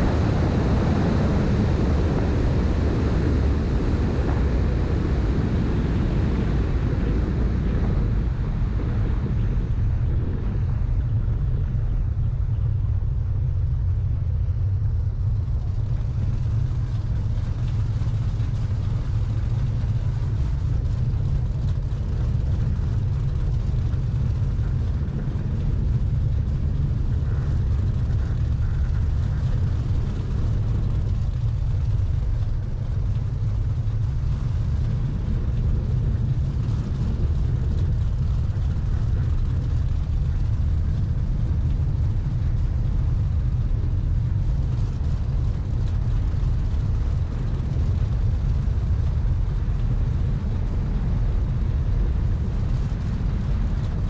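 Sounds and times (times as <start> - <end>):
powerboat engines rumbling: 7.6 - 54.0.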